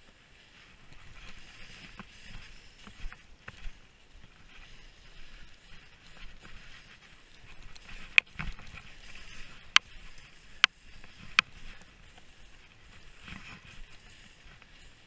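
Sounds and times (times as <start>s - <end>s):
skis swishing through snow: 0.0s - 15.0s.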